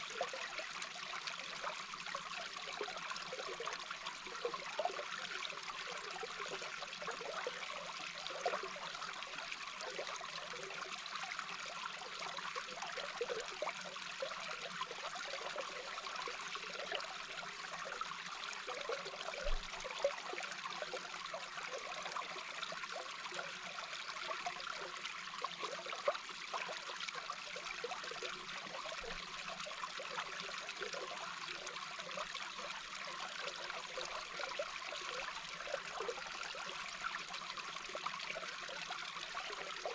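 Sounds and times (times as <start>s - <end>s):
running water heard underwater: 0.0s - 39.9s.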